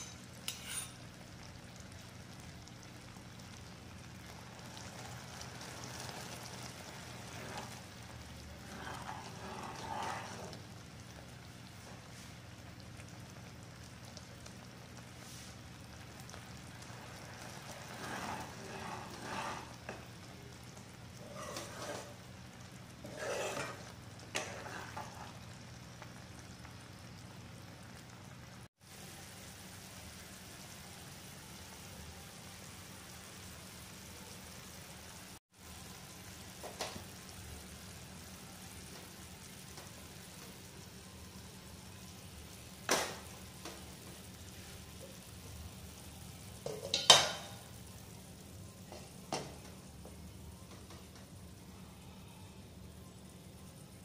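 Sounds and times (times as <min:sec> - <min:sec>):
syrup boiling and bubbling: 0:00.0 - 0:54.0.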